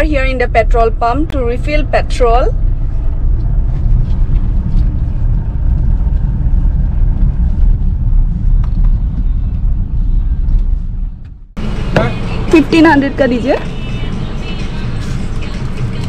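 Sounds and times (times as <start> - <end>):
car engine rumble: 0.0 - 16.0
road noise: 0.0 - 16.0.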